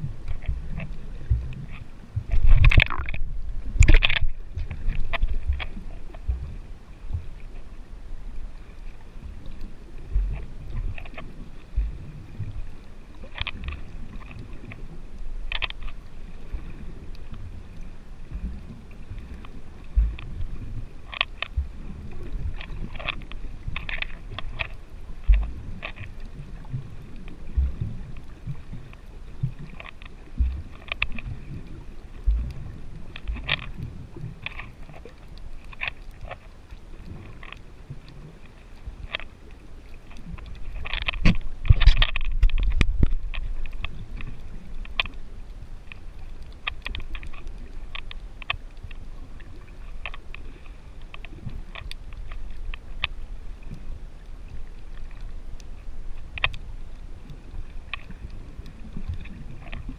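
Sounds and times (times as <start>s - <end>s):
underwater rumble: 0.0s - 59.9s
water rushing: 0.0s - 59.9s
short underwater clicks: 0.2s - 6.4s, 13.1s - 16.1s, 19.2s - 59.9s.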